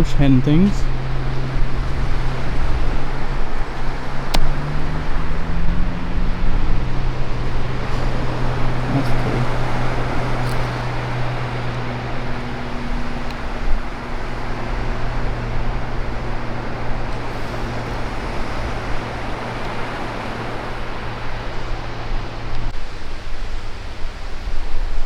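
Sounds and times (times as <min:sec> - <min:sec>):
car engine humming: 0:00.0 - 0:25.0
constant rushing noise: 0:00.0 - 0:25.0.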